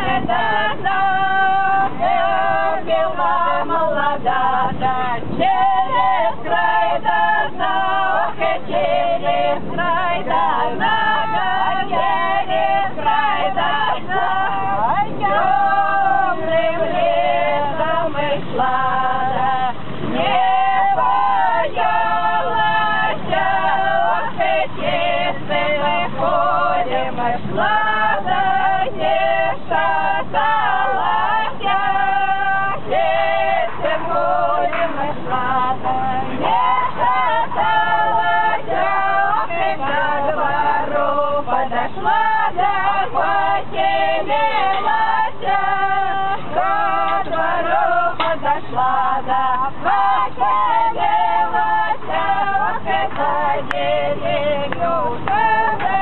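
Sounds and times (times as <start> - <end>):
group singing held notes: 0.0 - 56.0.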